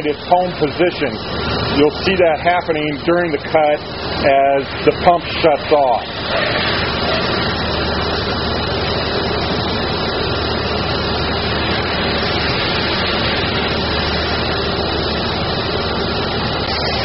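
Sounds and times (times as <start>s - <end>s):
waterjet cutter hissing: 0.0s - 17.0s.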